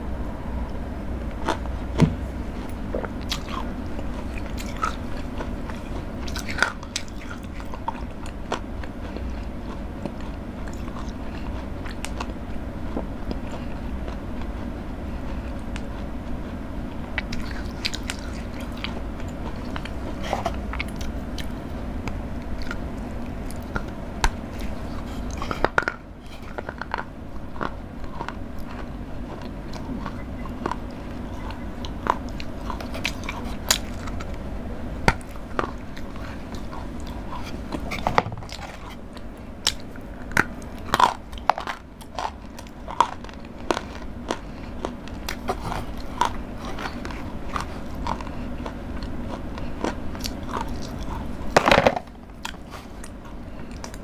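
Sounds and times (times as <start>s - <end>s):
chewing chocolate: 0.7s - 54.0s.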